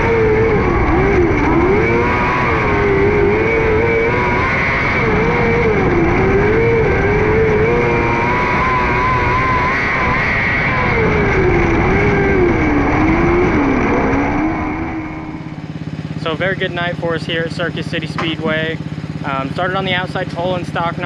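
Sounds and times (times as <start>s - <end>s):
high-revving racing car engine: 0.0s - 21.0s.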